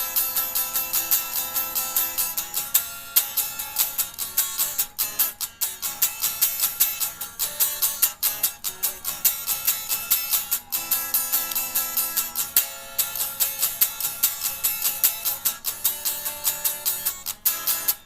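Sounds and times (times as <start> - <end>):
guitar strumming chords: 0.0 - 18.0.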